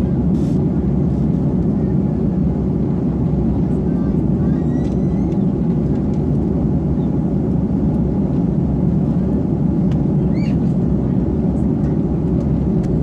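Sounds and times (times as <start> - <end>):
aircraft engines rumbling: 0.0 - 13.0.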